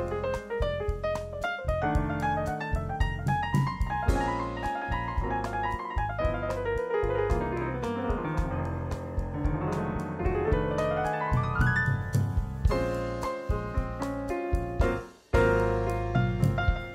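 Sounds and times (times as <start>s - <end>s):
piano background music with beat: 0.0s - 16.9s.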